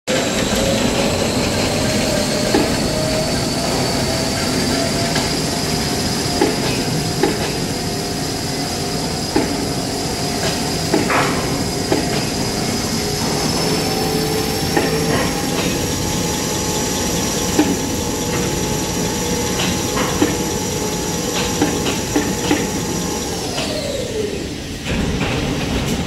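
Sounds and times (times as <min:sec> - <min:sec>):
thin rising whine: 0:00.1 - 0:24.6
machine mechanical din: 0:00.1 - 0:26.0.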